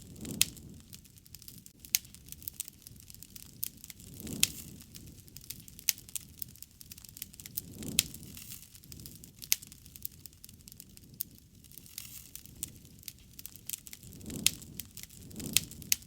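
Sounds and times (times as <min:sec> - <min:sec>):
low rush of flames: 0:00.0 - 0:16.0
wood fire crackling and popping: 0:00.0 - 0:16.0.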